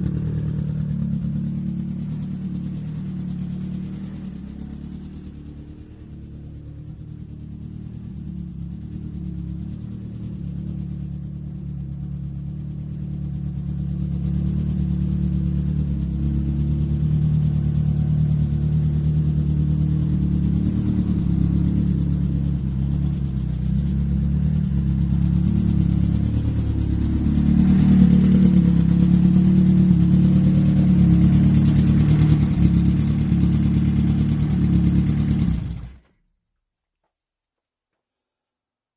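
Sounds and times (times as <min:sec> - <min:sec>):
car engine running: 0:00.0 - 0:36.1.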